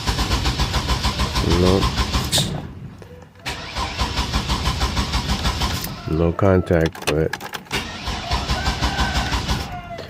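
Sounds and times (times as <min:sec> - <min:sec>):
starter motor cranking engine: 0:00.0 - 0:02.5, 0:03.5 - 0:09.8.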